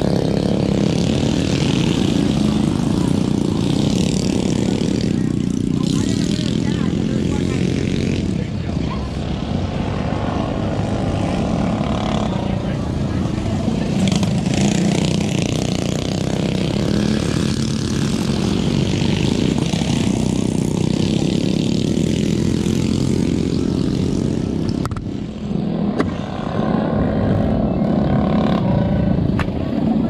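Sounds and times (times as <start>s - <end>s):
small engines buzzing: 0.0s - 30.0s.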